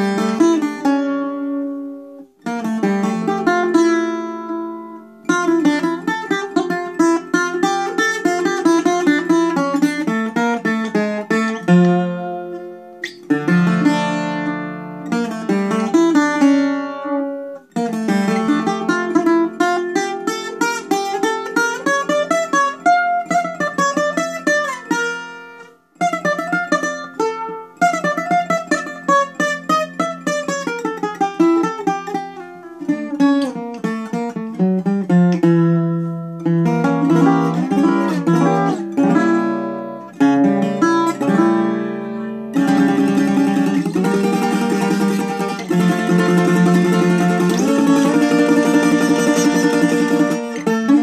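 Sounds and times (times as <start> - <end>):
solo bouzouki improvisation: 0.0 - 51.0.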